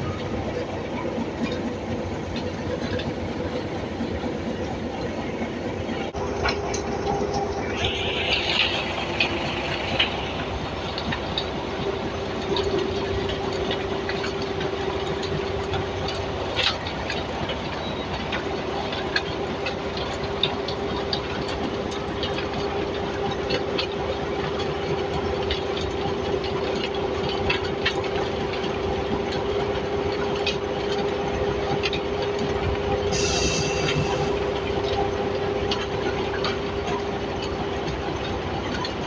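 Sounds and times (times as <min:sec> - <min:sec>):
large machine whining: 0:00.0 - 0:37.5.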